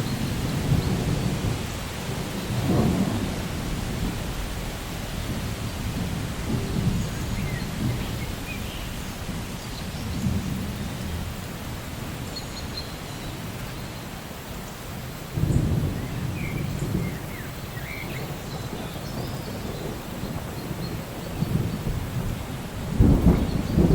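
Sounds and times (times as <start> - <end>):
thunder rumbling: 0.0 - 12.2, 15.3 - 23.9
steady rain: 0.0 - 23.9.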